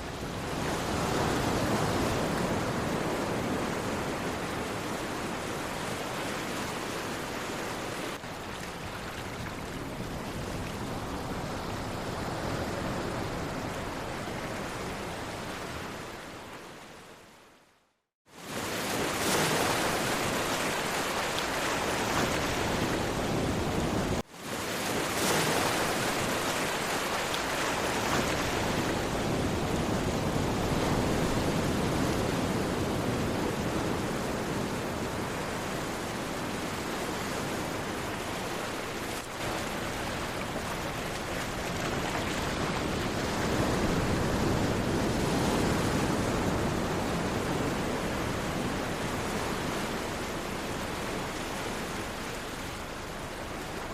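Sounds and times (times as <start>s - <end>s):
sea waves washing on shore: 0.0s - 17.3s, 18.3s - 53.9s.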